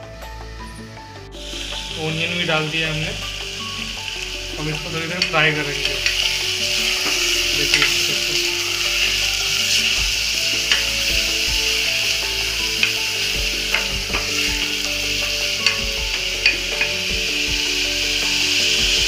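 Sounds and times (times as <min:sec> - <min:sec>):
onion and spices sizzling in oil: 0:00.4 - 0:19.0.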